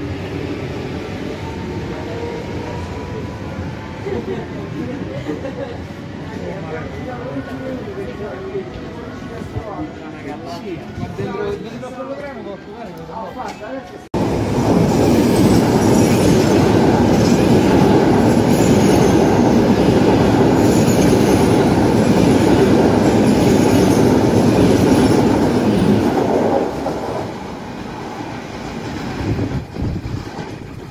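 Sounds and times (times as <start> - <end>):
train rumbling on rails: 0.0 - 11.8, 14.0 - 30.9.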